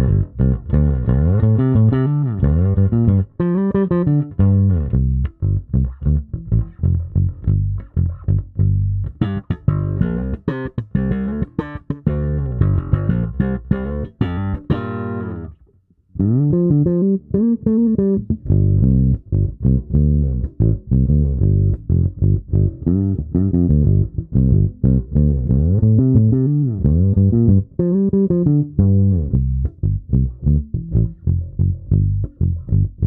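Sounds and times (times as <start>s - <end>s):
electric bass played fingerstyle: 0.0s - 33.0s.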